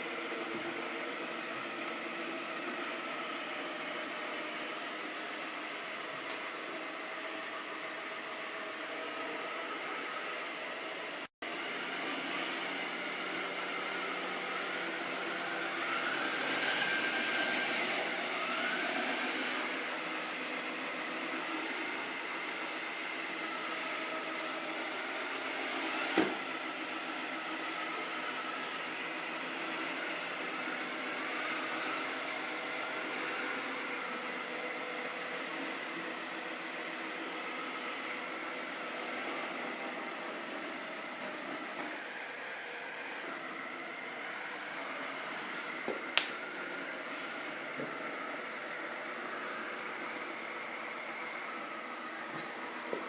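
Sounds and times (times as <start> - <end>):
robot vacuum cleaner whirring: 0.0 - 53.0.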